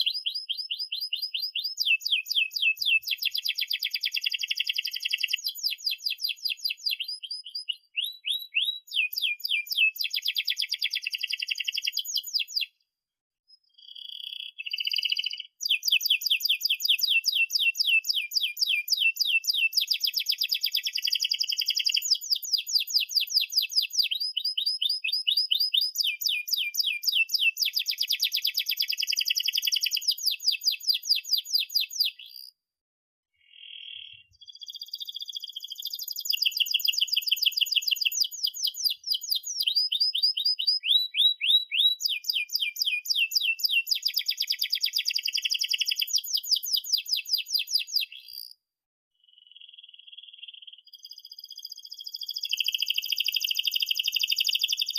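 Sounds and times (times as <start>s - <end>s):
canary singing trills: 0.0s - 12.8s, 13.5s - 32.5s, 33.4s - 48.6s, 49.3s - 54.9s.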